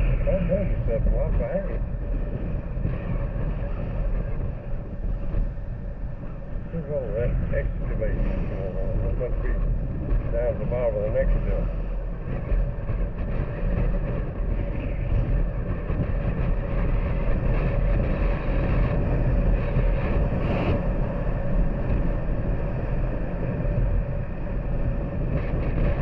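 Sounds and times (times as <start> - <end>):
road rumble: 0.0 - 26.0
wind noise: 0.0 - 26.0.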